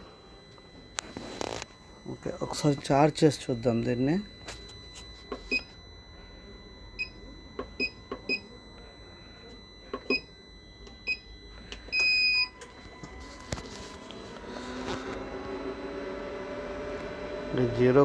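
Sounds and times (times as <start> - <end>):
electronic beeps: 0.0 - 15.3.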